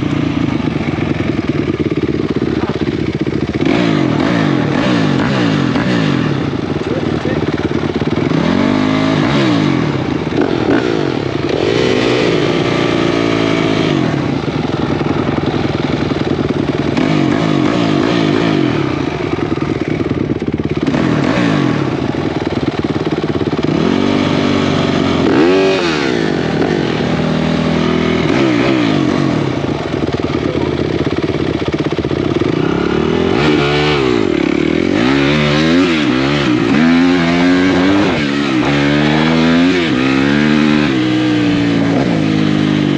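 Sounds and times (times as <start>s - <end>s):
off-road racing engines revving: 0.0s - 42.9s.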